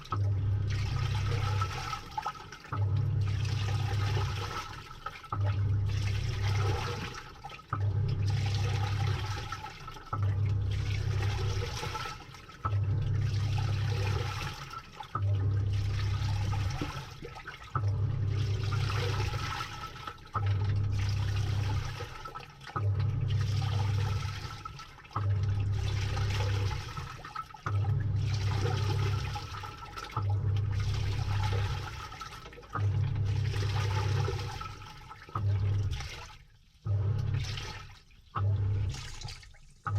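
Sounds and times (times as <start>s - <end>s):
washing machine agitating: 0.0s - 39.9s
water churning: 0.0s - 39.9s.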